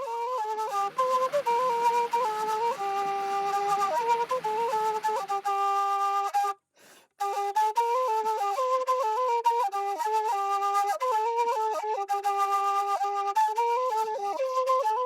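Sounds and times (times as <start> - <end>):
flute melody: 0.0 - 15.0.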